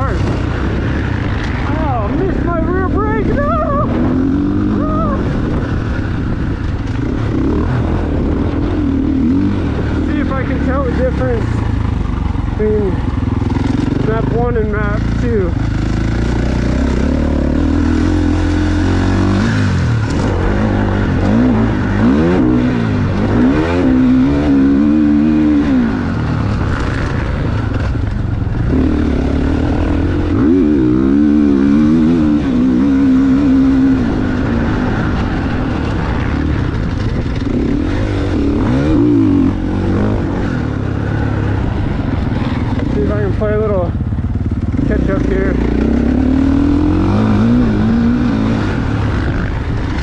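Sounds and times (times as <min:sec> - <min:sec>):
motocross bike engine revving: 0:00.0 - 0:50.0.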